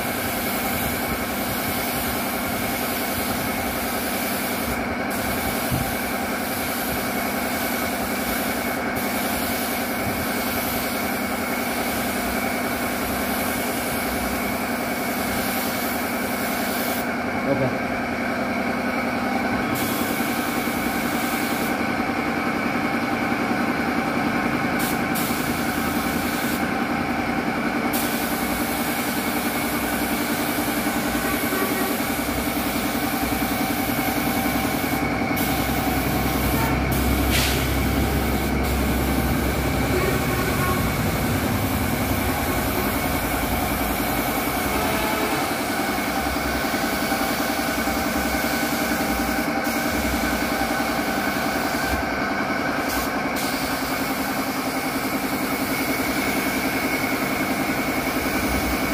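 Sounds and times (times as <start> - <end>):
paint spray gun hissing: 0.0 - 17.2, 19.7 - 21.9, 24.7 - 26.9, 27.9 - 58.9
air compressor running: 0.0 - 58.9.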